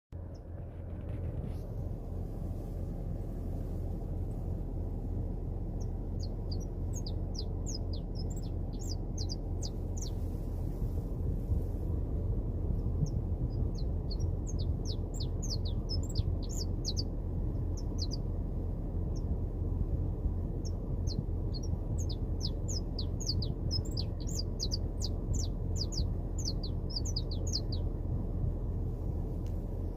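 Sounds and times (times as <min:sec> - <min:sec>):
steady low rumble: 0:00.1 - 0:29.9.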